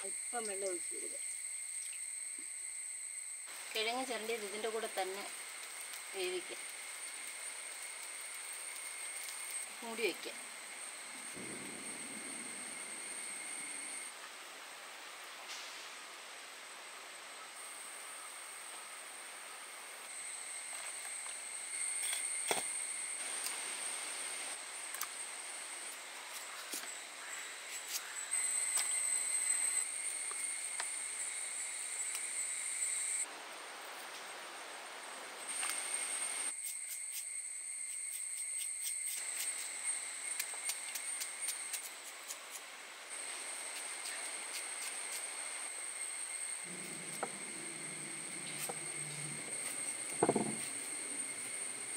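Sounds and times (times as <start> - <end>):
high-pitched insect drone: 0.0 - 14.2, 17.4 - 33.3, 35.4 - 51.9.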